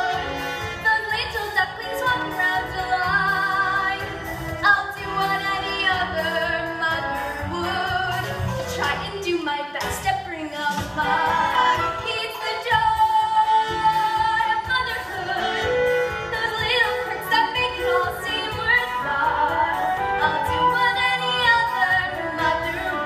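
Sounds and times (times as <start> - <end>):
instrumental accompaniment: 0.0 - 23.0
woman singing: 0.8 - 23.0.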